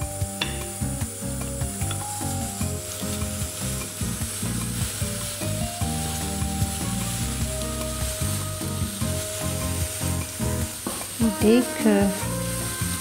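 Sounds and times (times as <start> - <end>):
onions sizzling in frying pan: 0.0 - 13.0
soft background music: 0.0 - 13.0.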